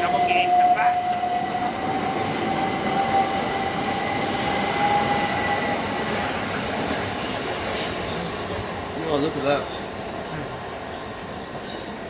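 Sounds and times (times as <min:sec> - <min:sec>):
electric train passing: 0:00.0 - 0:12.0
high whine of train: 0:00.0 - 0:12.0.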